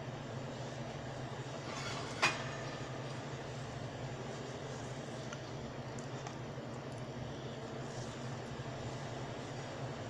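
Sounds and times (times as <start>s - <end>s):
low machine hum with hiss: 0.0s - 10.0s.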